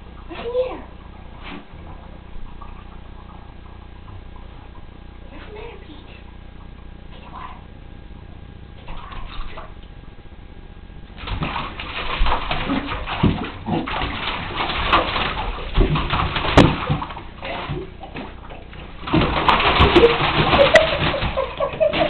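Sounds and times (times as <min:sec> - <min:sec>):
bathwater sloshing and splashing: 0:00.0 - 0:05.7, 0:08.7 - 0:09.9, 0:11.0 - 0:22.0.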